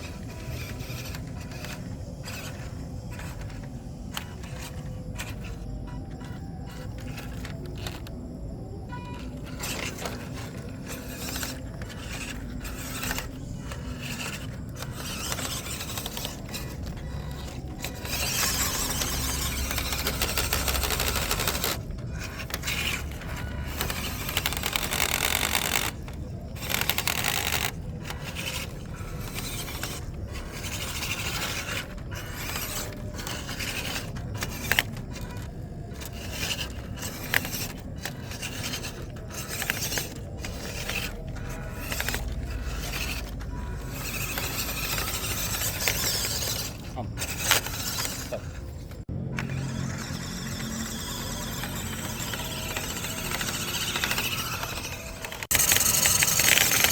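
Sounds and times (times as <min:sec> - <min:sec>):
toy car drivetrain whirring: 0:00.0 - 0:56.9.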